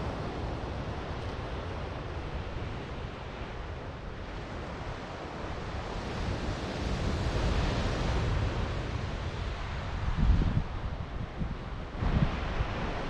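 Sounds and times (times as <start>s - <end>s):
ocean surf washing ashore: 0.0s - 13.0s
wind rumbling on microphone: 0.0s - 13.0s.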